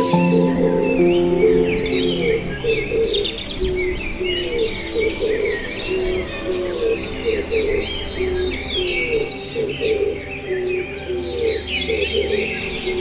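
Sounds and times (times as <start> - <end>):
birds chirping and twittering: 0.0 - 13.0
low repeated bird notes: 0.0 - 13.0.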